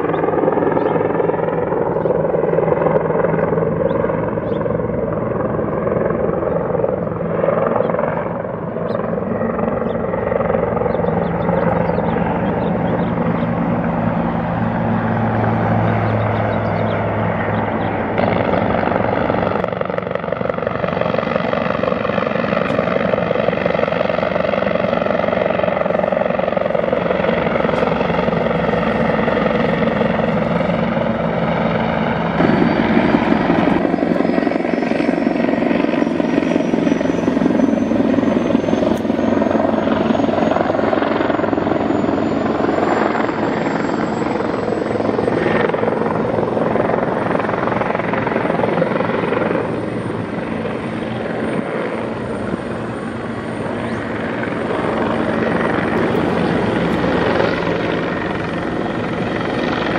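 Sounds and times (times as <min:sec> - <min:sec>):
helicopter rotor and engine: 0:00.0 - 0:59.9.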